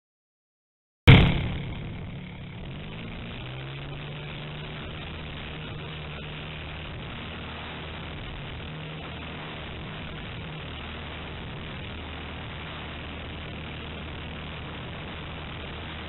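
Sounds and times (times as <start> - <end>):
steady hiss: 1.2 - 16.0.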